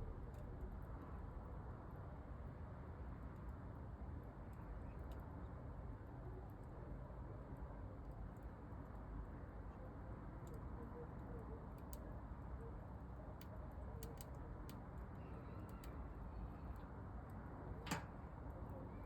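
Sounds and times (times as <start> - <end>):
faint low background noise: 0.0 - 19.0.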